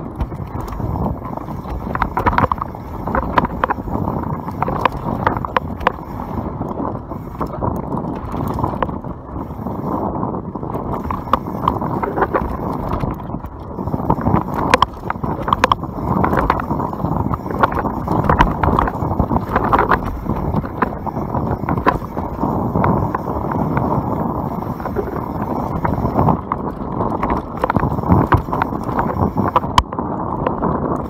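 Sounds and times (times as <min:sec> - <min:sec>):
bike rattling clicks: 0:00.0 - 0:31.0
wind rushing over microphone: 0:00.0 - 0:31.0.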